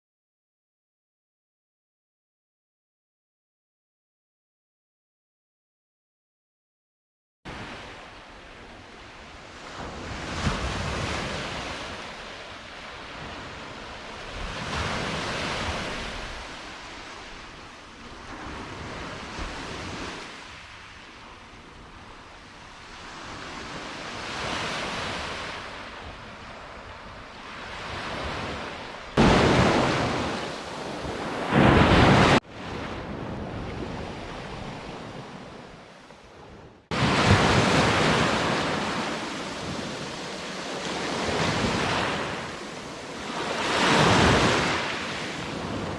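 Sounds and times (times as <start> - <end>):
sea waves breaking on shore: 7.5 - 45.9.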